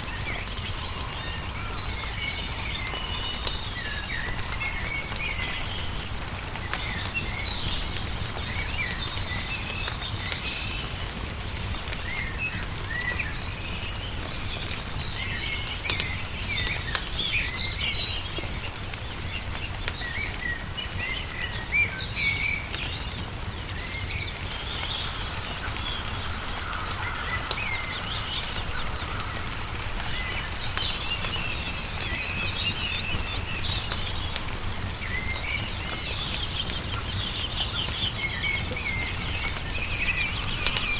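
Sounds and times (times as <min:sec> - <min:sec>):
songbirds chirping and trilling: 0:00.0 - 0:40.9
wood fire crackling: 0:00.0 - 0:40.9.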